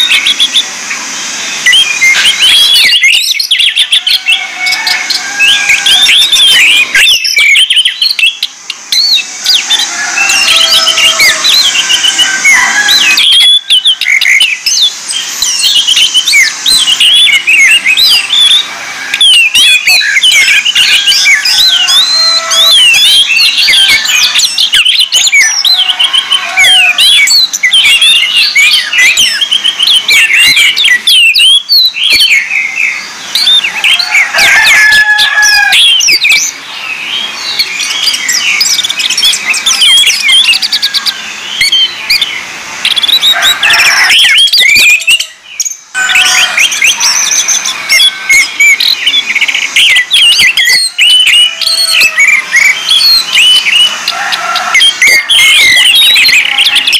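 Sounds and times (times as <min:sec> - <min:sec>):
birds chirping and warbling: 0:00.0 - 0:56.9.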